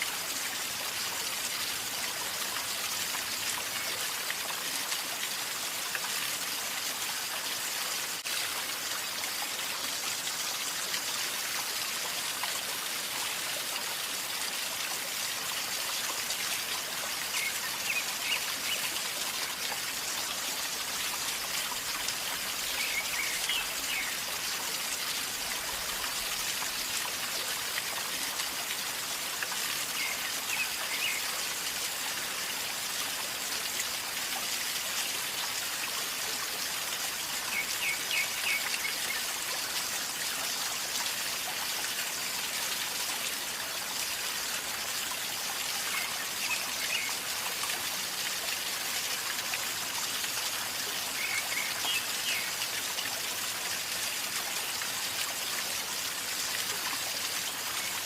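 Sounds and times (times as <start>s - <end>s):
river flowing and gurgling: 0.0s - 58.0s.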